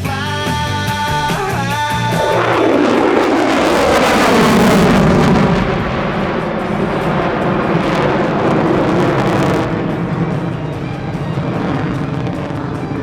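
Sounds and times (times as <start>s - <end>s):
fighter jet passing: 1.4s - 13.0s.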